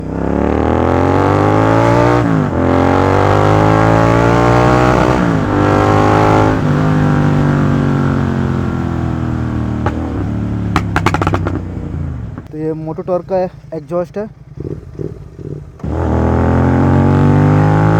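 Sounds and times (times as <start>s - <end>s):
motorcycle engine accelerating: 0.0s - 12.6s, 14.3s - 17.9s.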